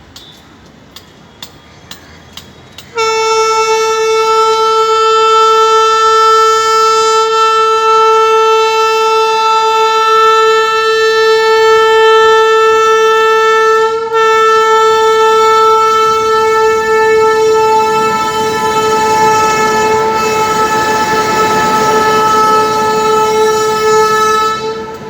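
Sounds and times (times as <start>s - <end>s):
locomotive horn: 2.9s - 25.0s.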